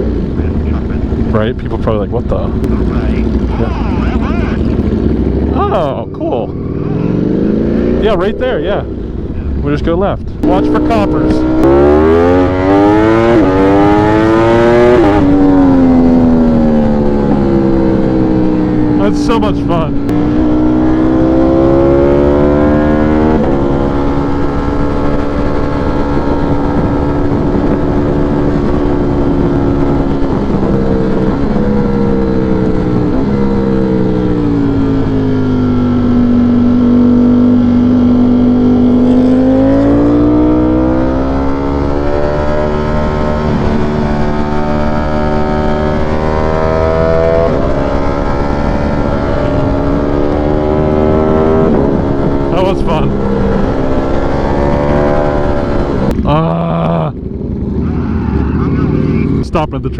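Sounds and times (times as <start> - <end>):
wind and road noise: 0.0 - 59.9
motorcycle engine with gear changes: 10.4 - 59.5.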